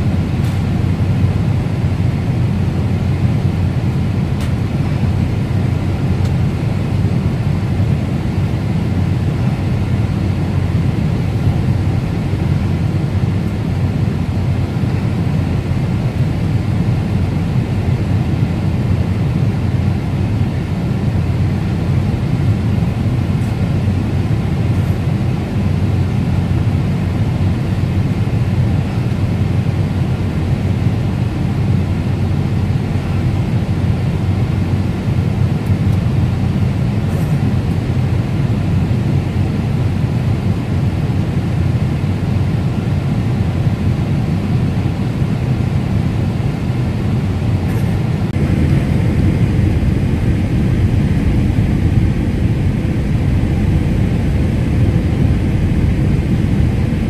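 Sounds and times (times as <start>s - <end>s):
airliner cabin engine rush: 0.0s - 57.0s.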